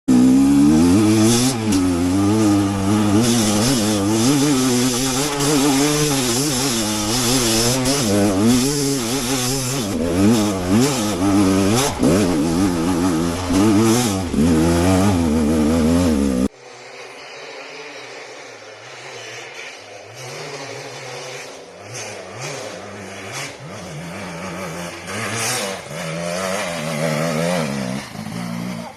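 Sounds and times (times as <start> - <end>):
motorcycle engine revving: 0.1 - 28.9.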